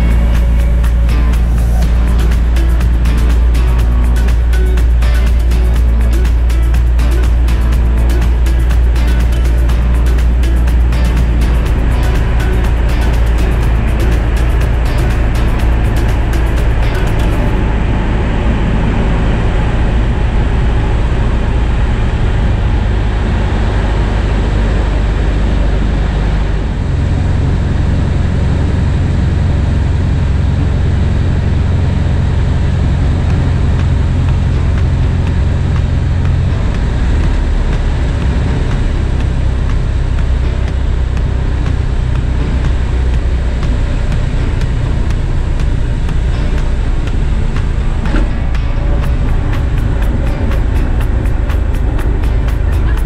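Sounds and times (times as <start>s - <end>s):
airplane piston engine running: 0.0s - 24.2s, 25.0s - 53.0s.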